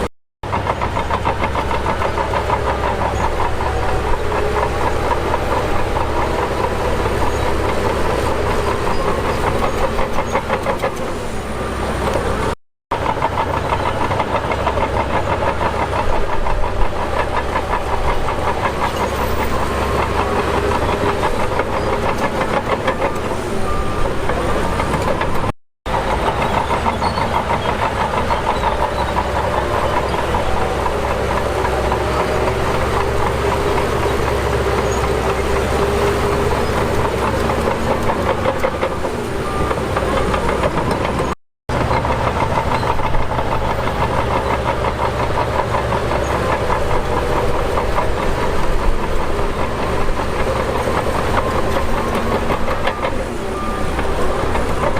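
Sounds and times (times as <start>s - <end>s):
diesel engine clattering: 0.0s - 54.9s.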